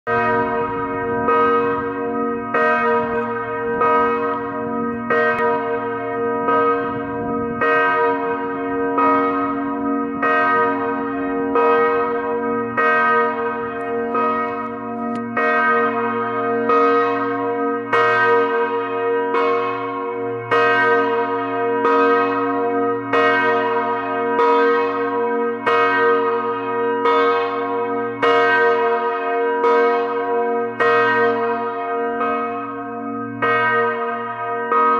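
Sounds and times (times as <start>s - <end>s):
large bell tolling: 0.1s - 34.9s.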